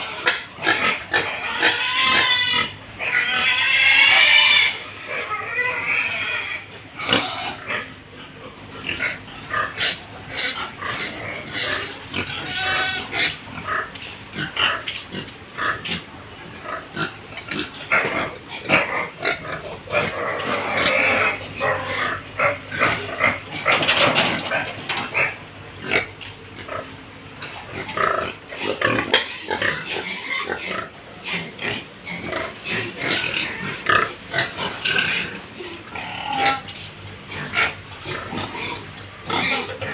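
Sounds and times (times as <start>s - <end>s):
pigs grunting: 0.0s - 39.9s.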